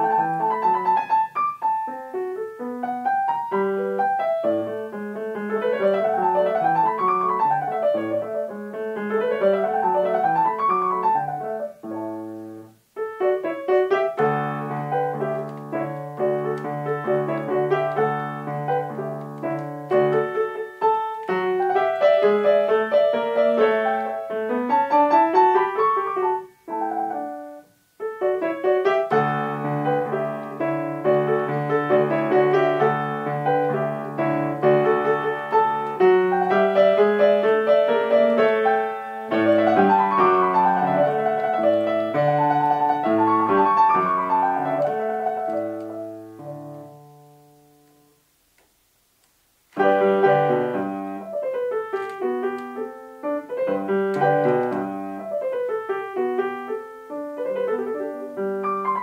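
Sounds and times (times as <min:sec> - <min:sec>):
solo grand piano piece: 0:00.0 - 0:59.0.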